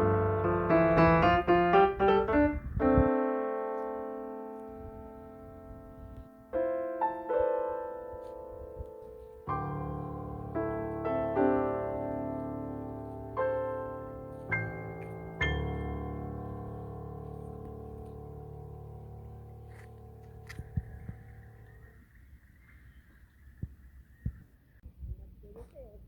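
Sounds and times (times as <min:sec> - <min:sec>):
slow solo piano: 0:00.0 - 0:24.4.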